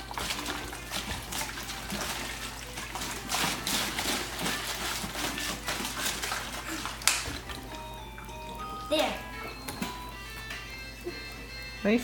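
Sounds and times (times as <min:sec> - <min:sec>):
water sloshing and gurgling: 0:00.0 - 0:11.9.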